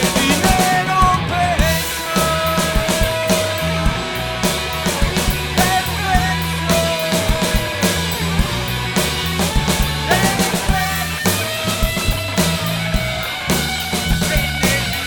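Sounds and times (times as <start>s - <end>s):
bass guitar: 0.0s - 15.0s
drum kit with cymbals: 0.0s - 15.0s
lead electric guitar bends: 0.0s - 15.0s.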